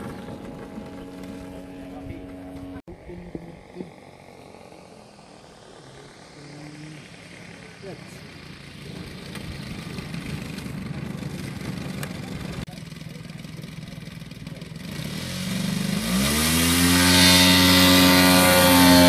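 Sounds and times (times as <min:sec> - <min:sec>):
model aircraft engine: 0:00.0 - 0:19.0.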